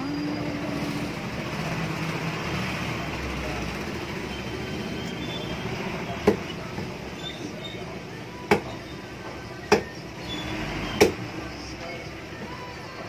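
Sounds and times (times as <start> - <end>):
market background noise: 0.0 - 13.0.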